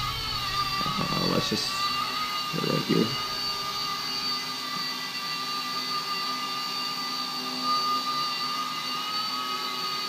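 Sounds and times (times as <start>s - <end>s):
toy helicopter rotor whine: 0.0s - 10.0s.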